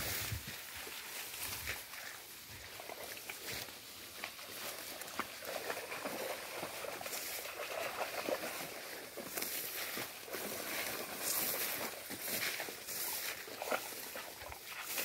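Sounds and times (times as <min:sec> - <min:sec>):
footsteps in vegetation: 0:00.0 - 0:15.0
tall grass rustling: 0:00.0 - 0:15.0.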